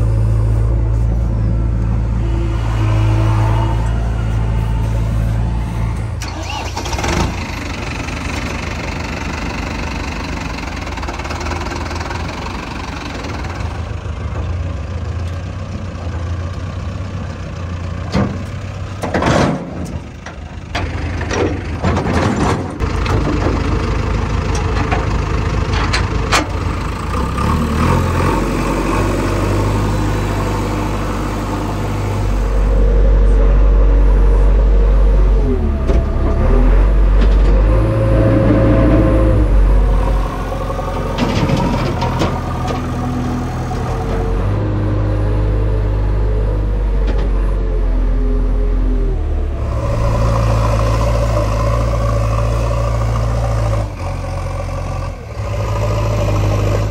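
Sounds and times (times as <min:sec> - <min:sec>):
diesel tractor engine running: 0:00.0 - 0:56.9
engine whine: 0:00.0 - 0:56.9.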